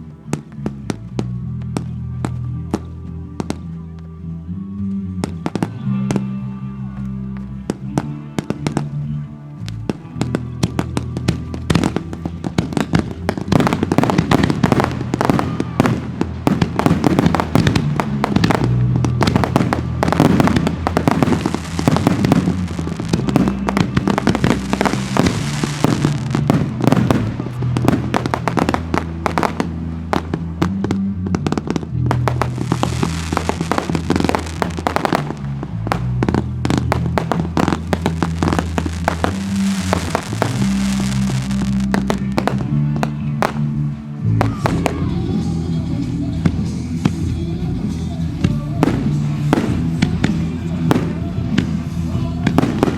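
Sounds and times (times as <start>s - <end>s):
fireworks bangs and crackles: 0.0s - 4.1s, 5.1s - 52.9s
music with bass line: 0.0s - 52.9s.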